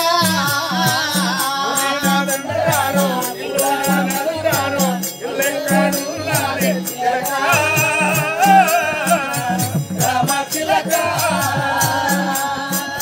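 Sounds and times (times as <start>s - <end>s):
hand drum beat: 0.0s - 13.0s
harmonium: 0.0s - 13.0s
jingling rattle percussion: 0.0s - 13.0s
man singing through microphone: 0.0s - 13.0s.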